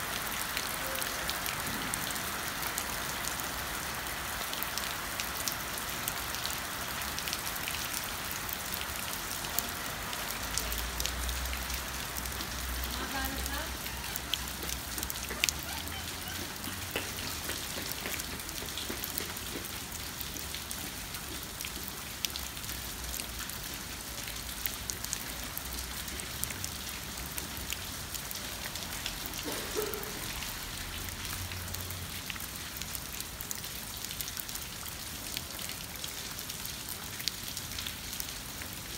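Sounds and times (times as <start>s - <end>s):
drips and splashes: 0.0s - 38.9s
rain on wet paving stones: 0.0s - 38.9s.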